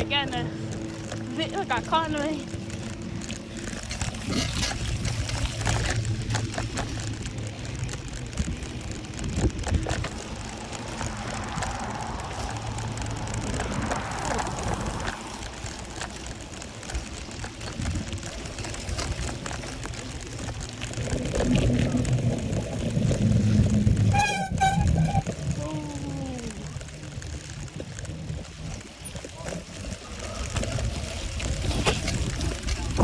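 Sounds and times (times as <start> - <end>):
rain falling: 0.0 - 33.0
steady low rumble: 0.0 - 33.0.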